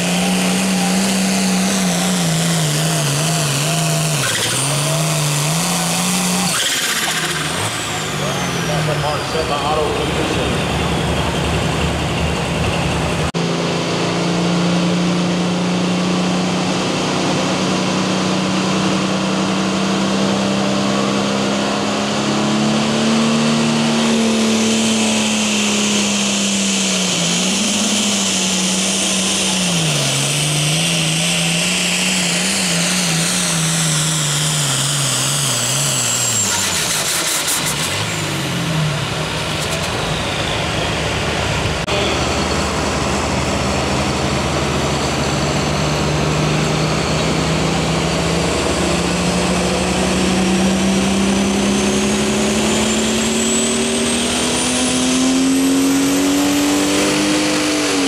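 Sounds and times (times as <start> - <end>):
high turbo whine: 0.0 - 58.0
tractor diesel engine under load: 0.0 - 58.0.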